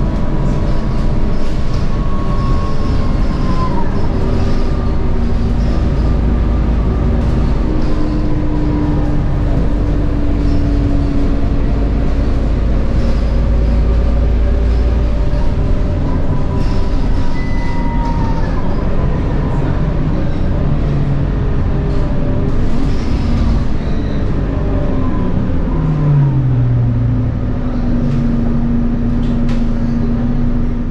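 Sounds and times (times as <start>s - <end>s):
bus engine and gearbox whine: 0.0s - 30.9s.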